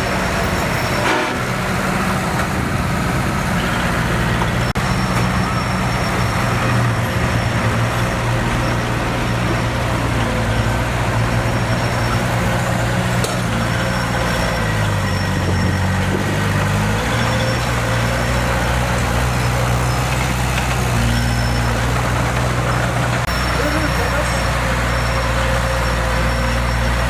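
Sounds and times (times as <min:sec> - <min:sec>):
heavy machinery diesel engine running: 0:00.0 - 0:27.0.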